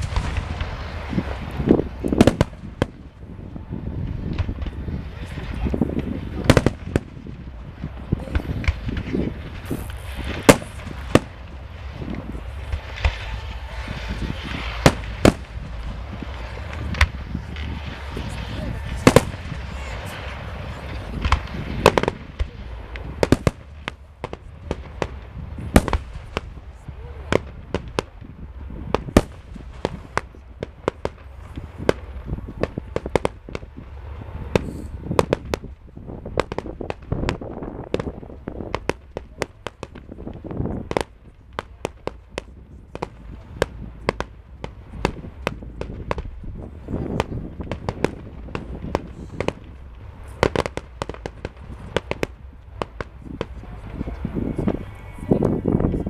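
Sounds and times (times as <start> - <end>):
fireworks bangs and cracks: 0.0 - 56.0
low rumble: 0.0 - 56.0.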